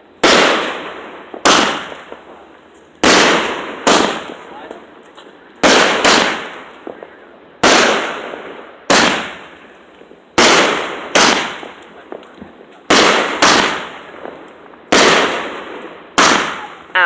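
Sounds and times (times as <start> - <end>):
fireworks exploding: 0.0 - 17.0.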